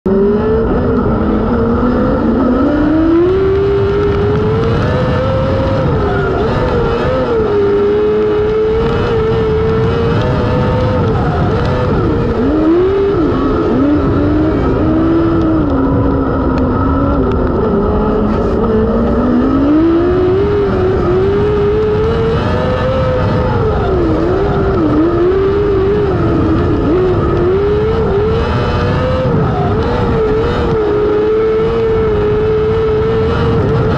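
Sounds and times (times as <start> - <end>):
race car engine revving: 0.1 - 33.9.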